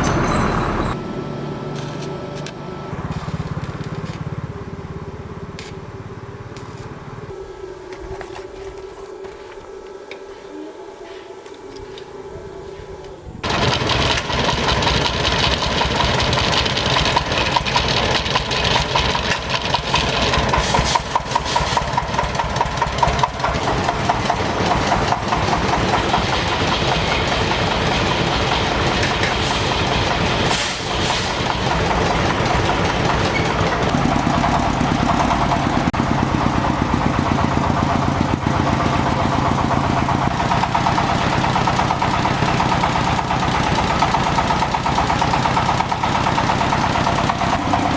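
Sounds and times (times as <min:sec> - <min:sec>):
small engine running: 0:00.0 - 0:07.4, 0:13.4 - 0:47.9.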